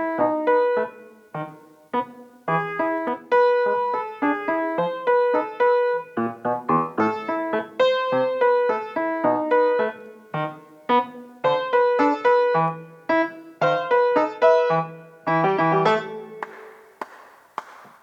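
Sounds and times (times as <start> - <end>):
solo piano notes: 0.0 - 17.0.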